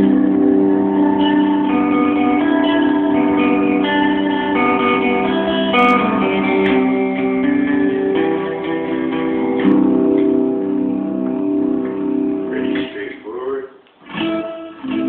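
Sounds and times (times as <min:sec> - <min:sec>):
electric guitar playing: 0:00.0 - 0:13.4, 0:14.0 - 0:15.0.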